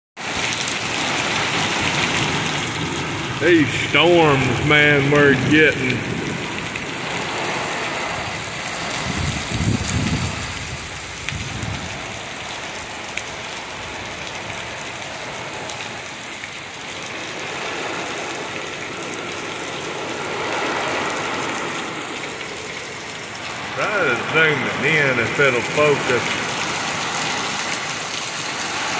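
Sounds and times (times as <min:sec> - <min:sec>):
heavy rain pouring: 0:00.2 - 0:28.9.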